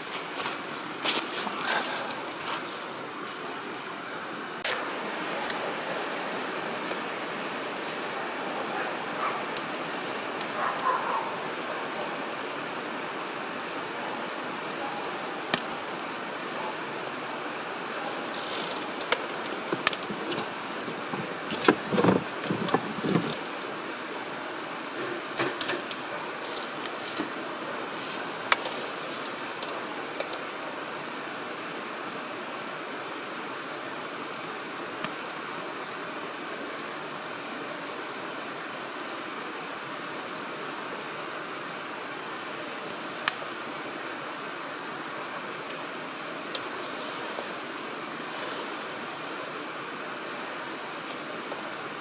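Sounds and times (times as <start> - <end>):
fire crackles and pops: 0.0 - 52.0
fire hissing: 0.0 - 52.0.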